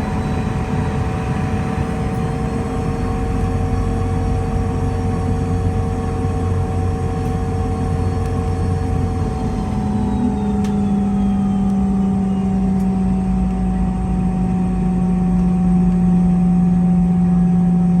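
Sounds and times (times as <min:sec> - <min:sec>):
jet engines hum and whine: 0:00.0 - 0:18.0.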